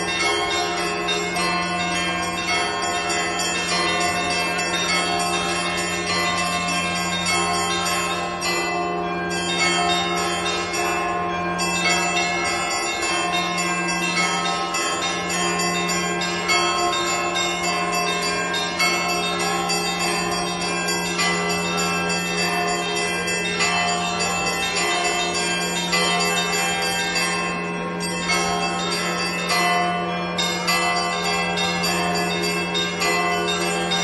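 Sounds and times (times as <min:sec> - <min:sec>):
low bell tone: 0:00.0 - 0:34.0
small bells struck quickly: 0:00.0 - 0:34.0.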